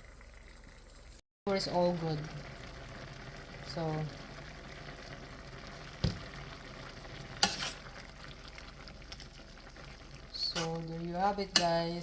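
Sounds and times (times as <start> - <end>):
stir-fry sizzling in a pan: 1.1 - 12.0.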